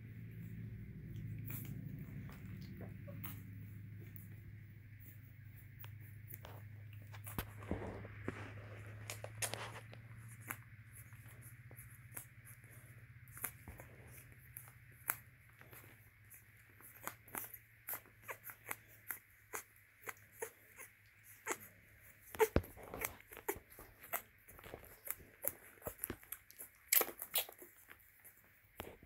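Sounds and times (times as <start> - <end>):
low steady hum: 0.0 - 29.0
puppies suckling: 0.1 - 29.0.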